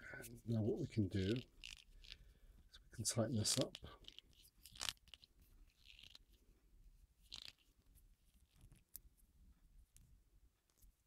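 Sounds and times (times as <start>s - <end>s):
small handling clicks and rustles: 0.2s - 2.3s, 3.3s - 11.0s.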